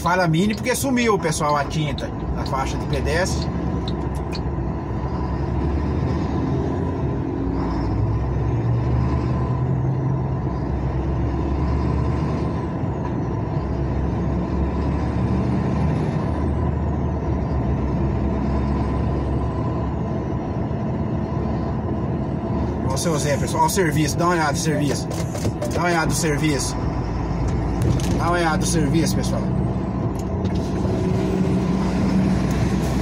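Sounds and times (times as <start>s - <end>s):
truck engine running: 0.0s - 15.6s, 16.2s - 33.0s.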